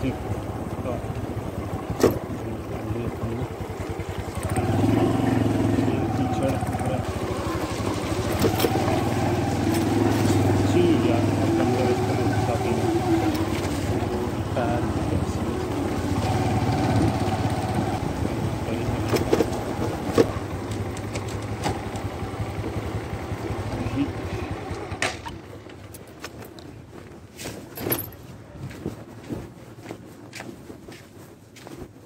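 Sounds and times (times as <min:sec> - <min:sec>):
motorcycle engine humming: 0:00.0 - 0:32.0.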